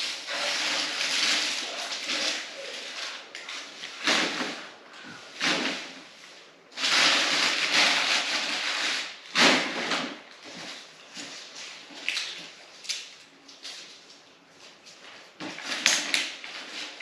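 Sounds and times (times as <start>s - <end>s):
rustling of things handled: 0.0s - 17.0s.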